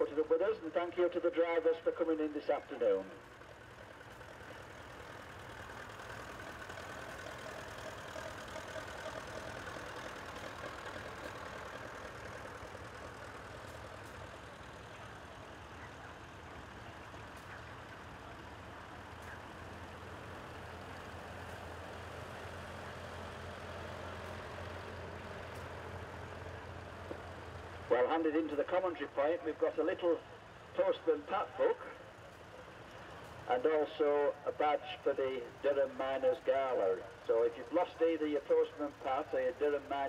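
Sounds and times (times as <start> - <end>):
tractor engines running: 0.0 - 40.0.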